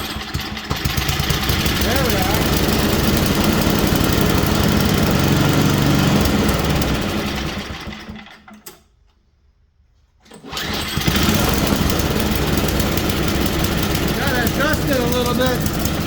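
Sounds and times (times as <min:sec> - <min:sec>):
snowblower engine running: 0:00.0 - 0:08.3, 0:10.4 - 0:16.0.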